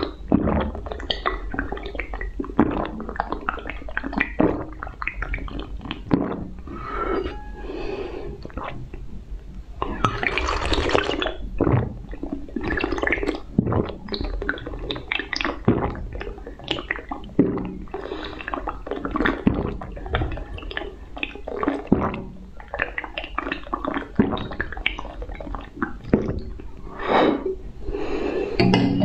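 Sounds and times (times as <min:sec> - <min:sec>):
slurping and swallowing drink: 0:00.0 - 0:07.3, 0:08.3 - 0:09.0, 0:09.8 - 0:27.6.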